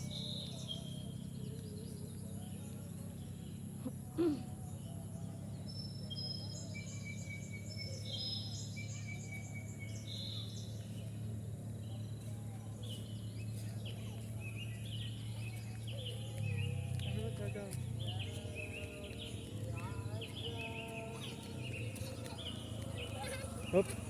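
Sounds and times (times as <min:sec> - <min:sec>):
birds whistling and chirping: 0:00.0 - 0:03.5, 0:04.4 - 0:24.0.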